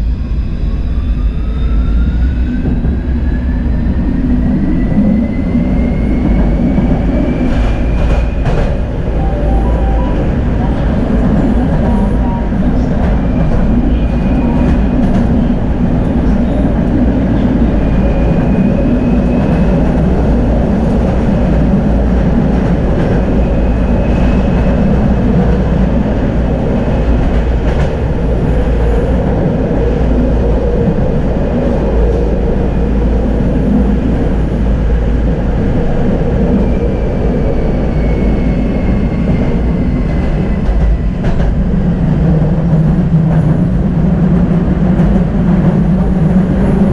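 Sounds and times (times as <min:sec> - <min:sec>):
tram wheels rolling on rail: 0:02.1 - 0:46.9.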